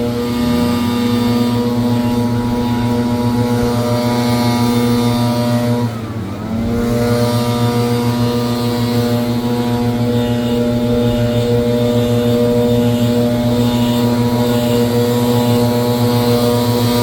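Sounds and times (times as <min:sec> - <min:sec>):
leaf blower engine running: 0:00.0 - 0:17.0.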